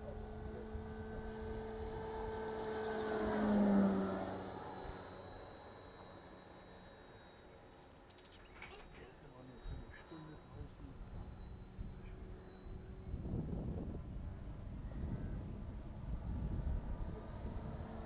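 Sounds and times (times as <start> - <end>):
model plane propeller humming: 0.0 - 18.0.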